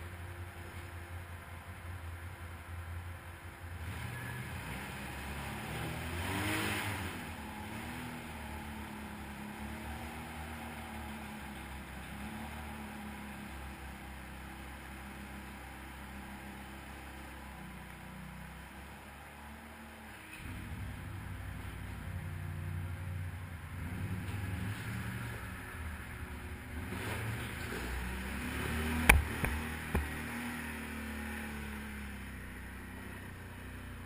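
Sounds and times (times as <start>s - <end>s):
atv engines running: 0.0s - 34.0s.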